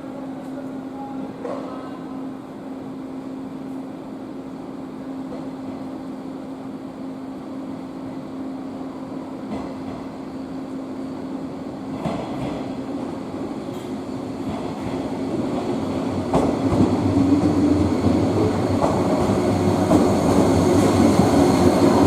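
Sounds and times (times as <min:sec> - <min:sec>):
electric train hum: 0:00.0 - 0:22.0.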